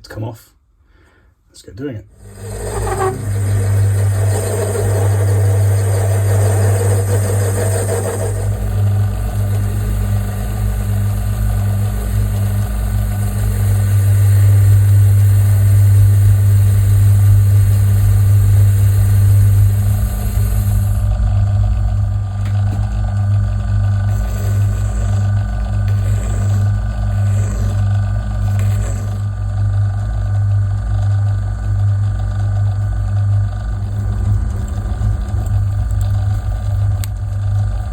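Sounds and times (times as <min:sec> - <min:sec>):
lathe motor hum: 0:02.1 - 0:37.9
rough lathe cutting noise: 0:02.1 - 0:37.9.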